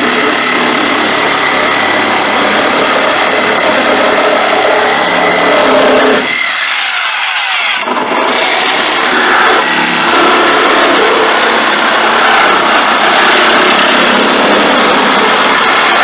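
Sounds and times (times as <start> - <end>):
power tool cutting: 0.0 - 16.0.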